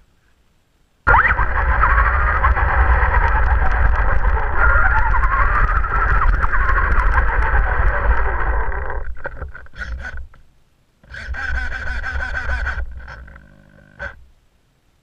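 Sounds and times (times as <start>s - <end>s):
toy buggy motor whining: 1.1s - 10.3s, 11.0s - 14.2s.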